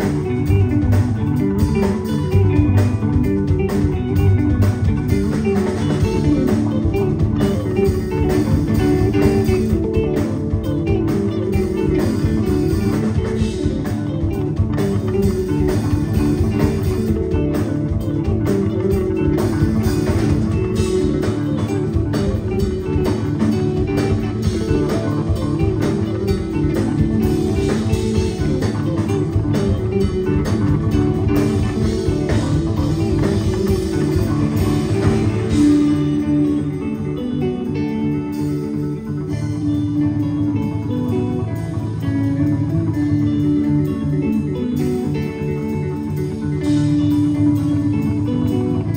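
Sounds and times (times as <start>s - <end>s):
drum kit: 0.0s - 48.9s
electric bass guitar: 0.0s - 48.9s
electric guitar: 0.0s - 48.9s.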